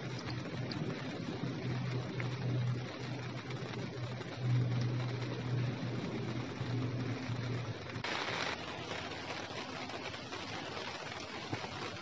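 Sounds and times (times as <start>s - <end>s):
low hum: 0.0s - 10.0s
light rain hissing: 0.0s - 12.0s.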